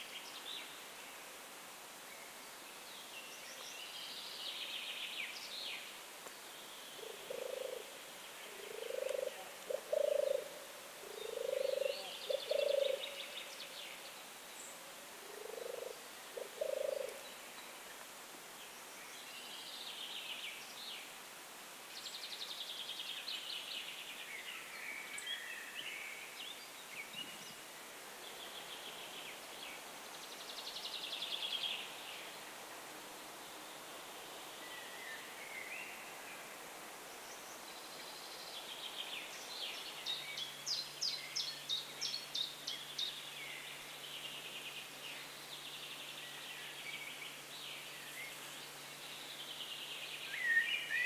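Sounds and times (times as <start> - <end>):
small songbirds chirping: 0.0 - 51.0.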